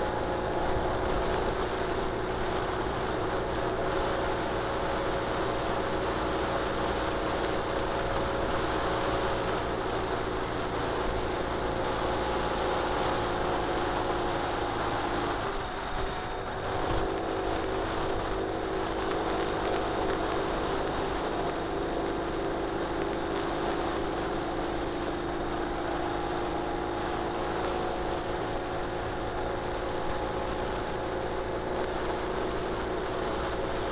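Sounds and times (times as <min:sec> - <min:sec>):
motorcycle engine running: 0:00.0 - 0:33.9
wind and road noise: 0:00.0 - 0:33.9.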